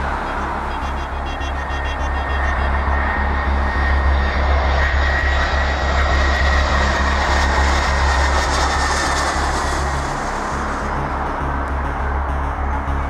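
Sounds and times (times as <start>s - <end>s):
jet engine high whine: 0.0s - 13.0s
jet engine roar: 0.0s - 13.0s.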